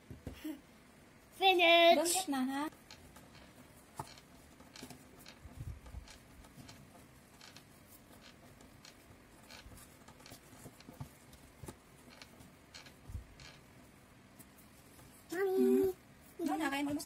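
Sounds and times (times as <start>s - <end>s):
hands kneading dough: 0.0s - 17.0s.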